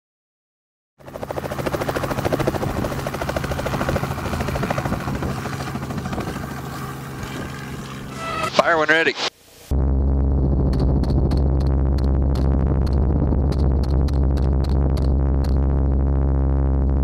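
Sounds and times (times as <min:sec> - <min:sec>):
helicopter engine drone: 0:01.0 - 0:15.6
helicopter rotor beating: 0:01.0 - 0:15.6.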